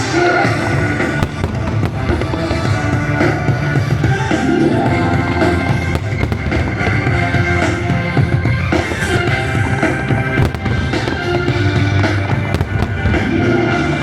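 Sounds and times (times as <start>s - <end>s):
firework bangs: 0.0s - 14.0s
loud music with drums: 0.0s - 14.0s.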